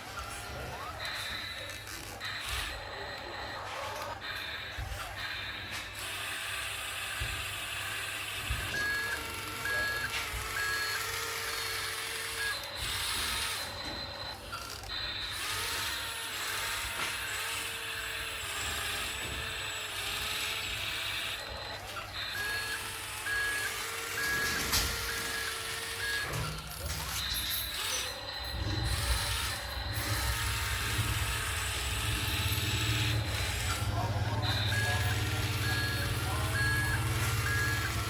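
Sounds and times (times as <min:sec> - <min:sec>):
reversing alarm beeping: 0:00.0 - 0:38.0
wavering machine whine: 0:00.0 - 0:38.0.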